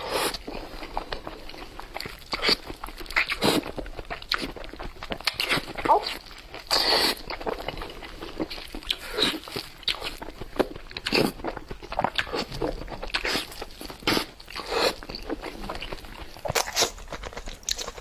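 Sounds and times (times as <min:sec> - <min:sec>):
crunching and wet chewing: 0:00.0 - 0:18.0.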